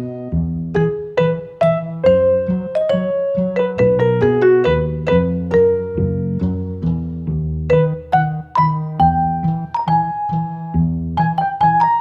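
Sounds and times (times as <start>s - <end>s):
light piano tune with bass: 0.0s - 12.0s.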